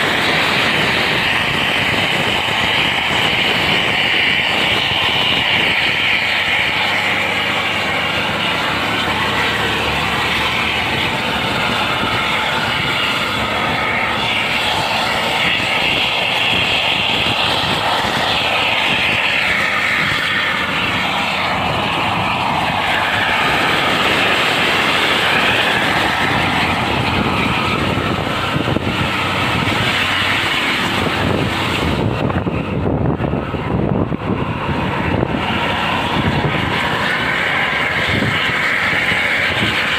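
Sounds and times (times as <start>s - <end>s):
buses driving at speed: 0.0s - 39.9s.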